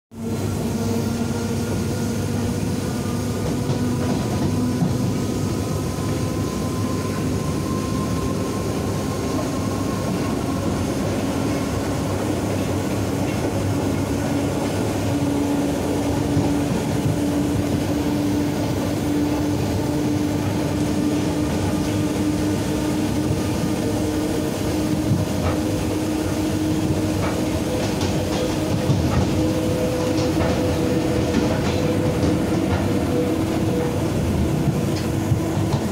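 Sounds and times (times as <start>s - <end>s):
freight train passing alongside: 0.1s - 35.9s
train running noise inside carriage: 0.1s - 35.9s.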